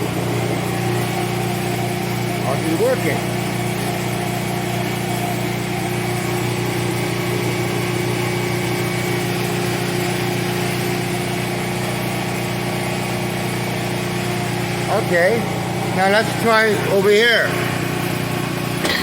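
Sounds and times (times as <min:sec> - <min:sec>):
generator droning: 0:00.0 - 0:19.0.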